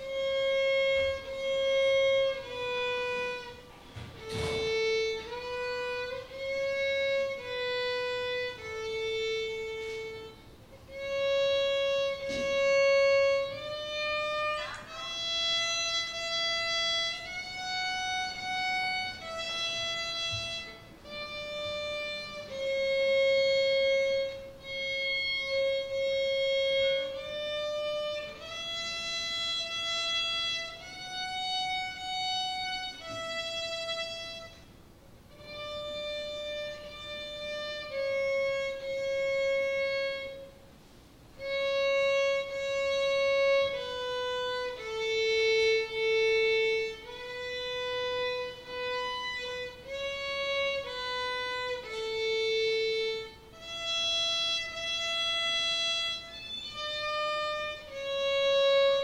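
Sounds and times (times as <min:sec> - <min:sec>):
solo violin melody: 0:00.0 - 0:59.0.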